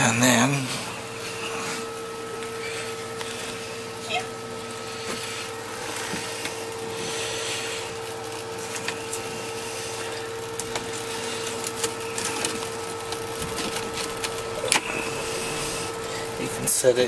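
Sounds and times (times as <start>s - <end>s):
aquarium pump humming: 0.0s - 17.0s.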